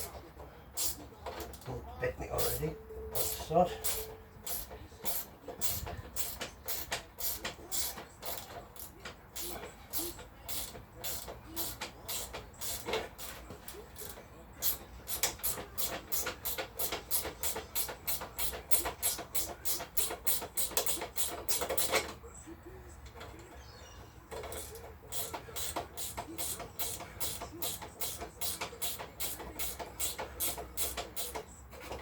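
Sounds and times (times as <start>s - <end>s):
ratchet spanner clicking: 0.8s - 1.6s, 3.2s - 22.2s, 24.4s - 32.0s.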